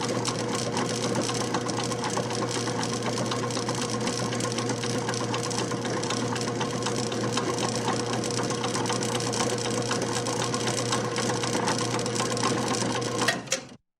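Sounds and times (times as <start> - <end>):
electric water pump humming: 0.0 - 13.6.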